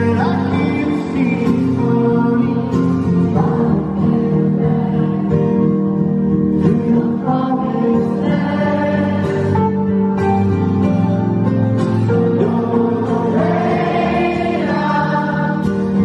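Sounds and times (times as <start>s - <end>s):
man singing live: 0.0s - 10.8s, 12.0s - 16.0s
strummed acoustic guitar: 0.0s - 16.0s.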